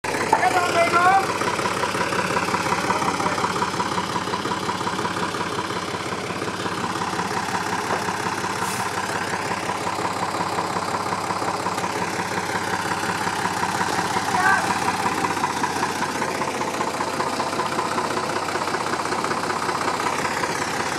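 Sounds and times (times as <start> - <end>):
forklift engine running: 0.0 - 20.9.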